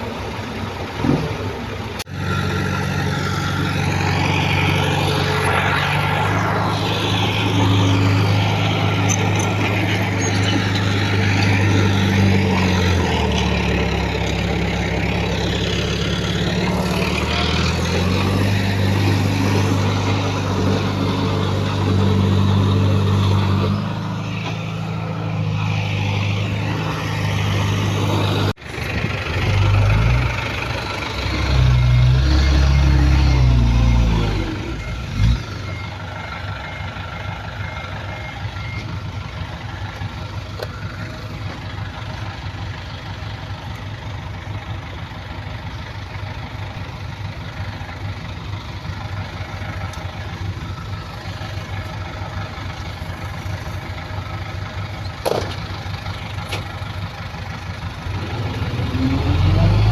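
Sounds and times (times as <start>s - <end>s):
heavy machinery diesel engines: 0.0s - 59.9s.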